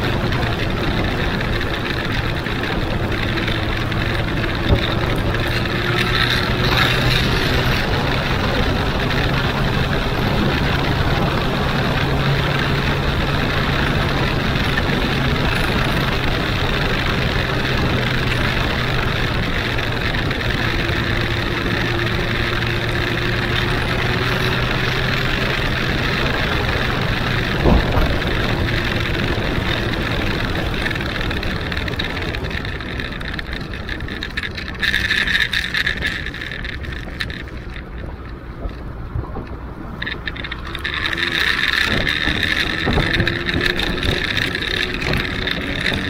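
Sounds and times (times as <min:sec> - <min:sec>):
motorcycle engine running: 0:00.0 - 0:46.0
wind and road noise: 0:00.0 - 0:46.0.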